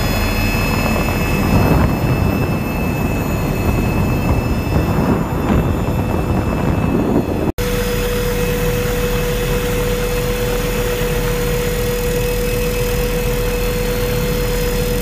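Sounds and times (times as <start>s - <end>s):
helicopter rotor and engine drone: 0.0s - 15.0s
steady whine: 0.0s - 15.0s.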